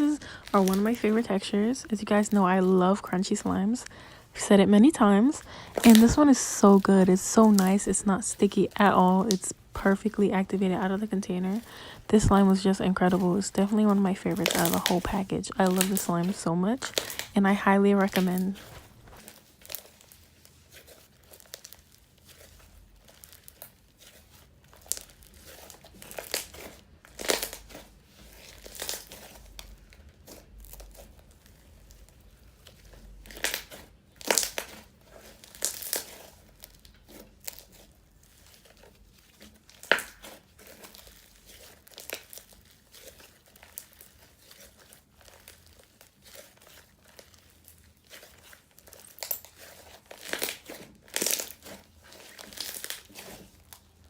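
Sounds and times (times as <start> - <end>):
slime crackling and crunching: 0.0 - 54.0.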